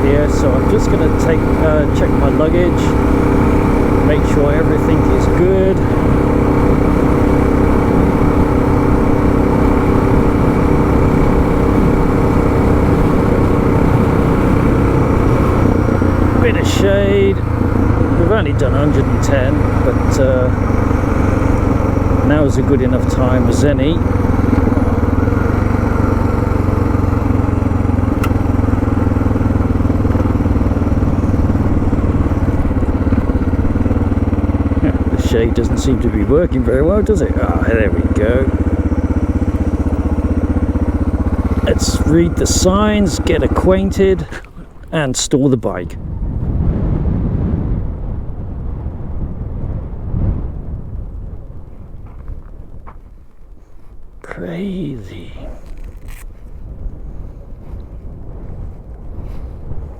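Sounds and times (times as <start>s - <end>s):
motorcycle engine running: 0.0s - 44.9s, 45.7s - 59.9s.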